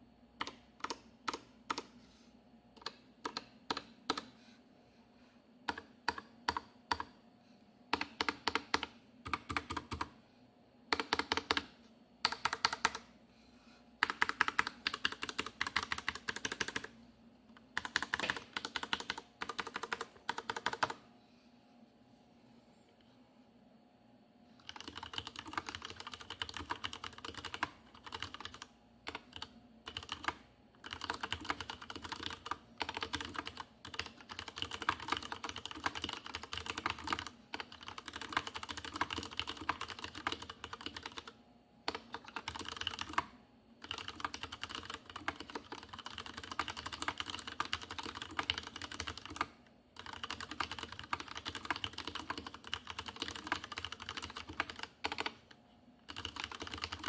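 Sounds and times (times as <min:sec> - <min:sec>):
mechanical keyboard typing: 0:00.4 - 0:01.9, 0:02.8 - 0:04.3, 0:05.7 - 0:07.1, 0:07.9 - 0:10.2, 0:10.9 - 0:13.1, 0:14.0 - 0:17.0, 0:17.6 - 0:21.0, 0:24.6 - 0:57.0.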